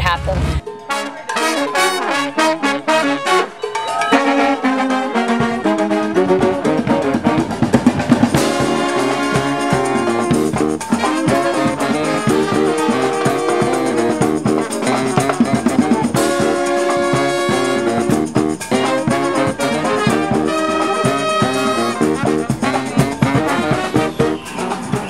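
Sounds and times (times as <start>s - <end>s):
brass band music: 0.0s - 25.0s
drum beat: 0.0s - 25.0s.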